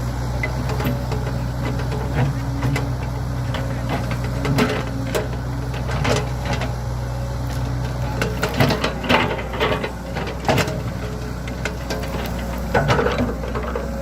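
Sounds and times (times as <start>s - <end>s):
excavator diesel engine running: 0.0s - 14.0s
digging knocks and clanks: 0.3s - 14.0s.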